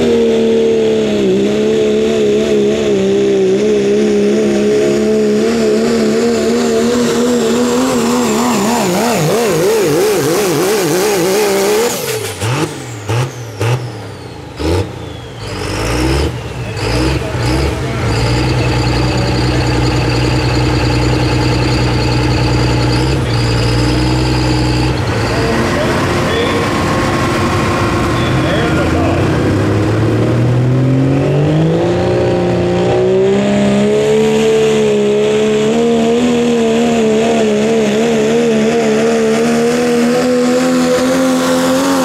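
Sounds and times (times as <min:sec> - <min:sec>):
diesel truck engine at full throttle: 0:00.0 - 0:42.0.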